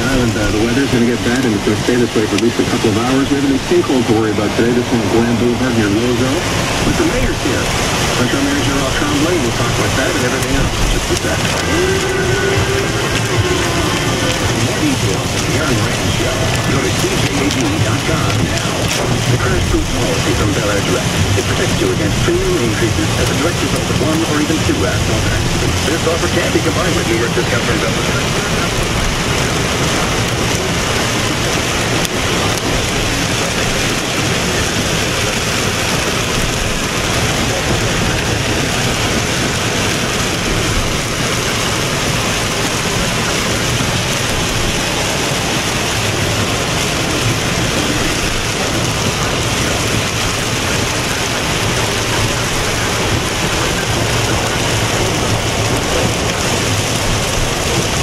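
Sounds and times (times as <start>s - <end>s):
heavy rain on car roof: 0.0s - 58.0s.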